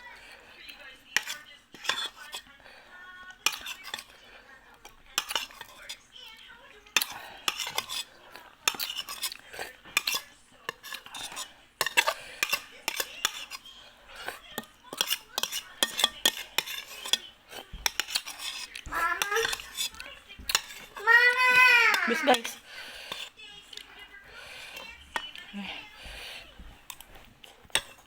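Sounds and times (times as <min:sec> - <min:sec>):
spoon scraping a bowl: 0:00.0 - 0:06.1, 0:06.8 - 0:28.0.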